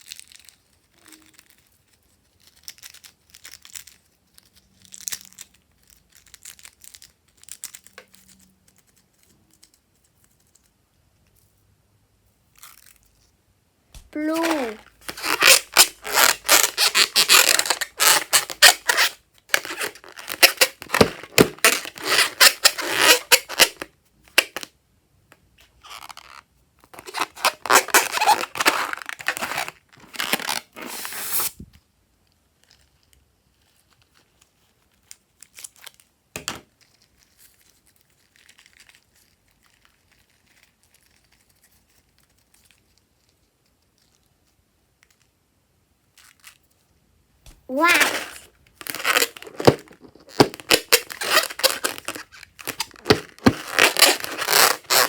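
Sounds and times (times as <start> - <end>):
slime crackling and tearing: 0.0 - 10.6, 12.5 - 13.3, 14.2 - 24.7, 25.8 - 31.5, 32.5 - 45.2, 47.7 - 55.0.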